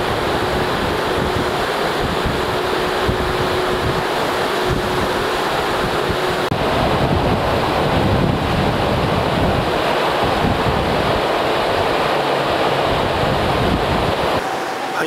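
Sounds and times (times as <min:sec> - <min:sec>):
wind buffeting microphone: 0:00.0 - 0:14.4
rushing wind: 0:00.0 - 0:15.0
sea noise: 0:00.0 - 0:15.0.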